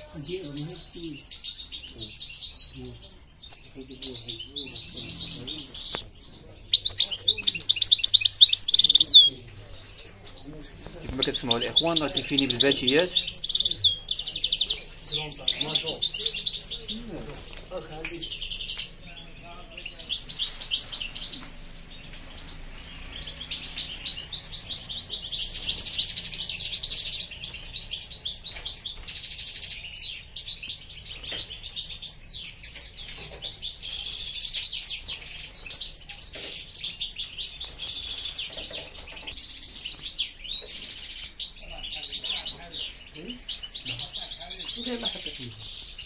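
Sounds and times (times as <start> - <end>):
songbirds twittering and trilling: 0.0 - 46.0.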